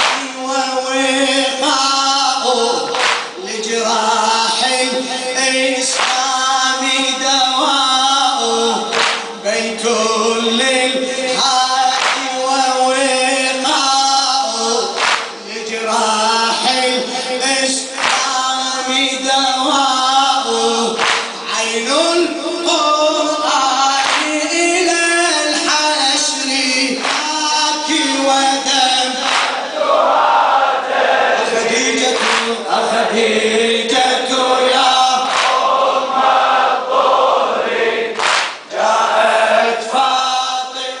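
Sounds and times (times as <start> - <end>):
man chanting into a microphone: 0.0 - 29.9, 30.8 - 36.2, 38.7 - 41.0
crowd of men singing: 0.0 - 41.0.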